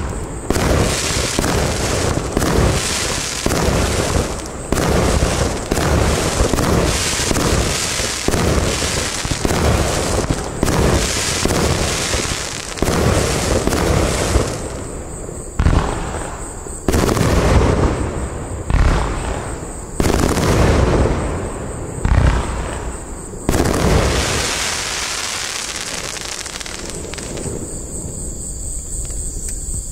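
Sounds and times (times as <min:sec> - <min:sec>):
firework shots and shell bursts: 0:00.0 - 0:27.6.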